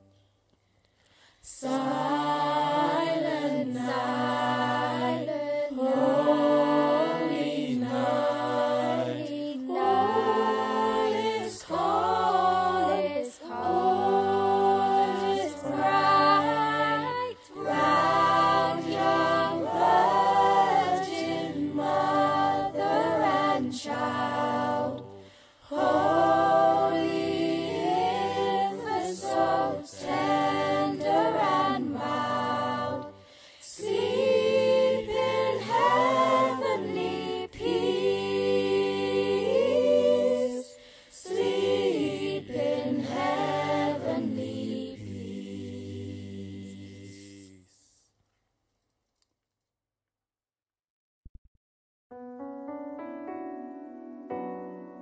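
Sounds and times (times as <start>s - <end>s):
choir singing a cappella: 1.4s - 48.0s.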